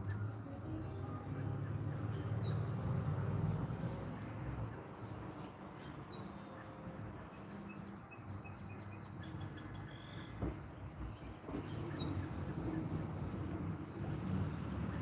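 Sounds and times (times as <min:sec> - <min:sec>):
outdoor background noise: 0:00.0 - 0:15.0
bird chirping: 0:00.9 - 0:13.6.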